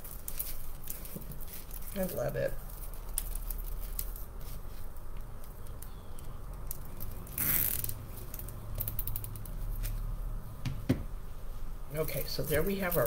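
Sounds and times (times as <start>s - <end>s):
plastic mesh rustling: 0.0s - 10.1s, 12.2s - 13.0s.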